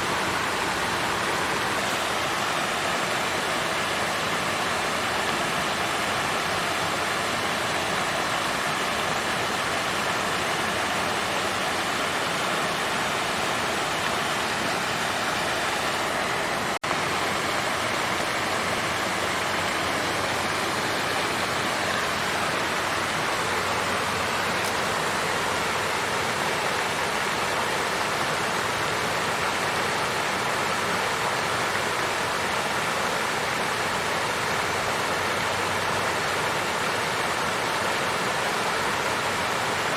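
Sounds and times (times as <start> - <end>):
water fountain flowing: 0.0 - 39.9.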